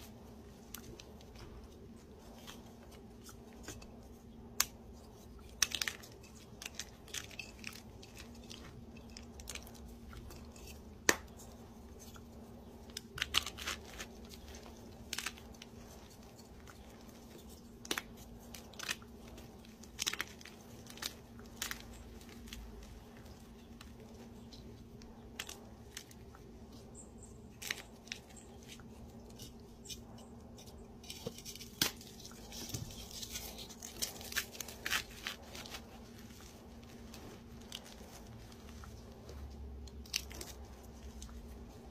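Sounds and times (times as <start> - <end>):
faint steady hum: 0.0 - 41.9
hands crushing crunchy blocks: 0.0 - 41.9.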